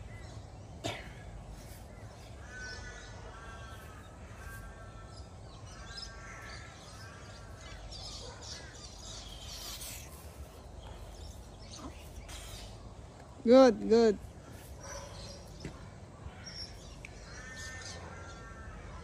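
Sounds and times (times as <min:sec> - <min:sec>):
harsh bird calls: 0:00.0 - 0:13.5, 0:14.1 - 0:19.0.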